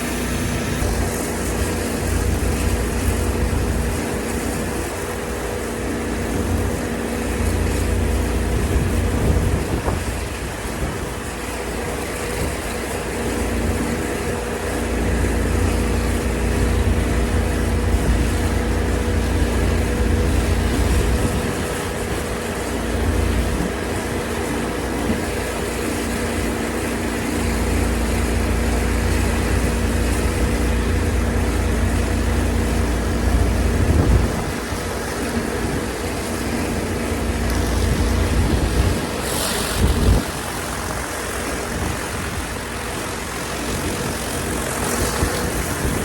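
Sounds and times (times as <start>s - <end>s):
engine humming steadily: 0.0s - 46.0s.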